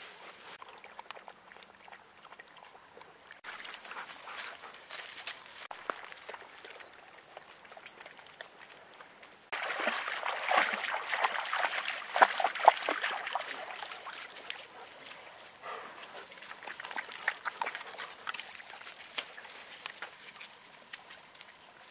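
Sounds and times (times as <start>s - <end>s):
dogs splashing through water: 0.0s - 21.9s.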